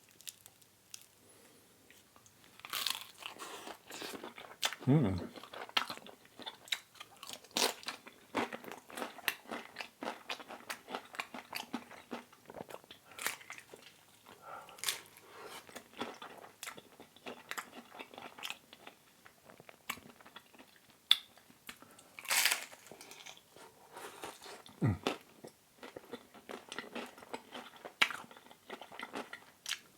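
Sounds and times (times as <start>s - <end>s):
chewing crunchy pizza: 1.9s - 29.9s.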